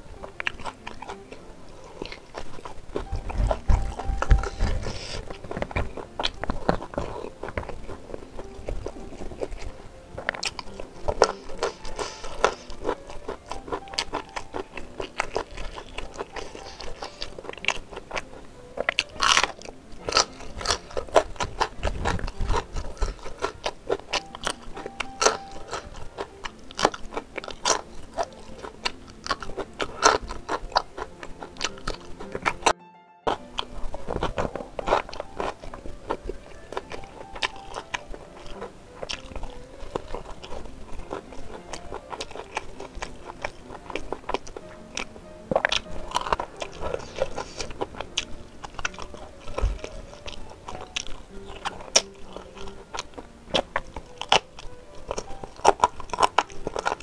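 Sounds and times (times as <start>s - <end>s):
background music: 0.0s - 57.0s
person chewing food: 0.0s - 57.0s.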